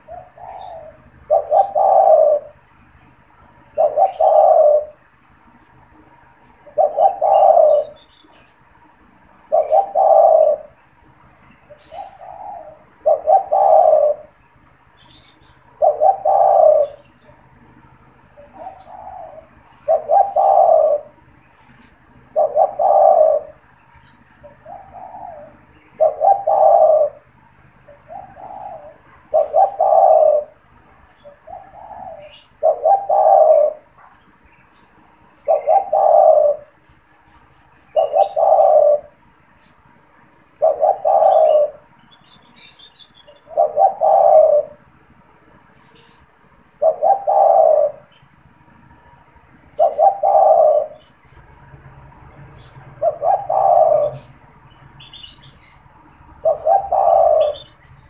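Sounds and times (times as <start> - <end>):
dove cooing: 0.0 - 8.7, 9.4 - 10.8, 11.4 - 39.8, 40.5 - 44.9, 45.7 - 48.2, 48.9 - 58.0.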